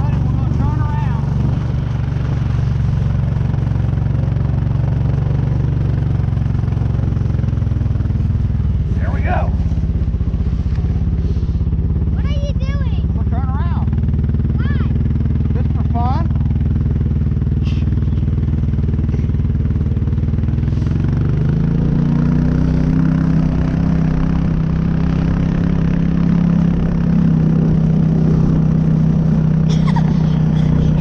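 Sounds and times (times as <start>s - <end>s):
atv engine running: 0.0s - 31.0s.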